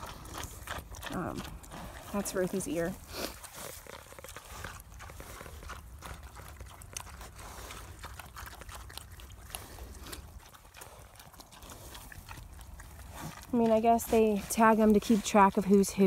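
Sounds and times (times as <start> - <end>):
pigs chewing feed: 0.0 - 16.0.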